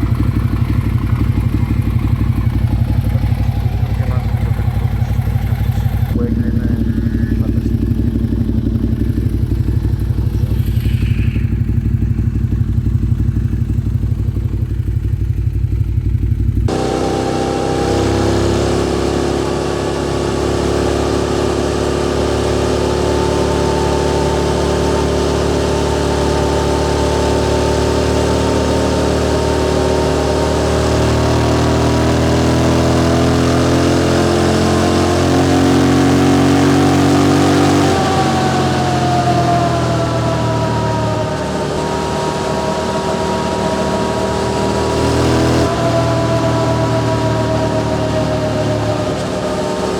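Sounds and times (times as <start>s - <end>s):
motorcycle engine: 0.0s - 49.9s
road and wind noise: 7.4s - 49.9s.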